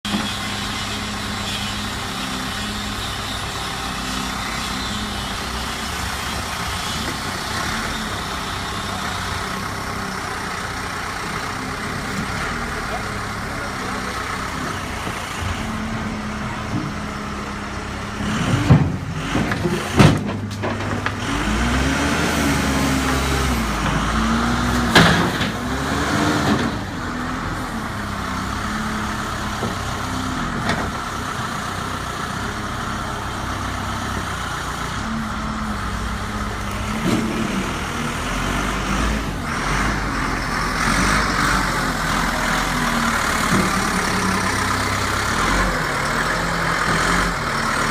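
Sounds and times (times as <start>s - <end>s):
backhoe diesel engine revving: 0.0s - 47.9s.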